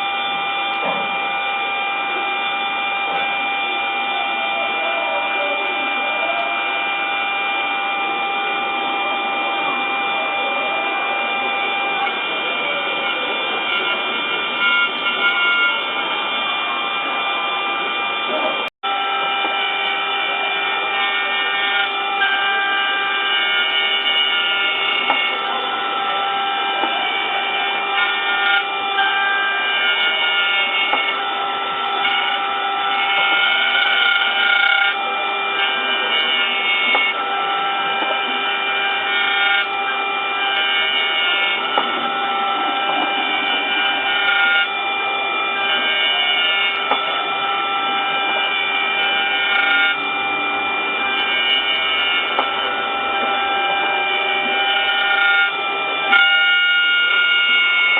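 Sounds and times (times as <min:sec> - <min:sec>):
cnc machine motors whining: 0:00.0 - 0:57.9.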